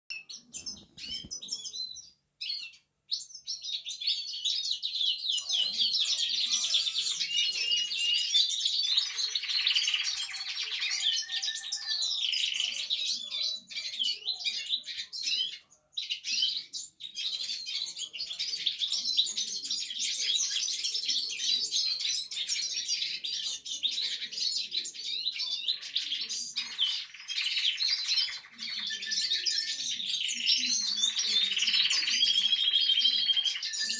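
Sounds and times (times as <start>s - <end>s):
canary singing: 0.1s - 33.9s.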